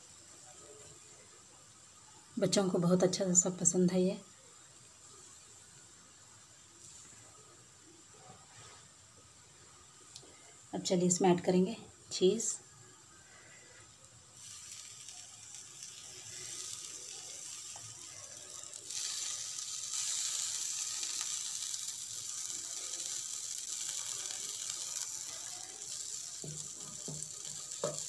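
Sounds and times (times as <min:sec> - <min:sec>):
flatbread sizzling on a griddle: 0:00.0 - 0:28.0.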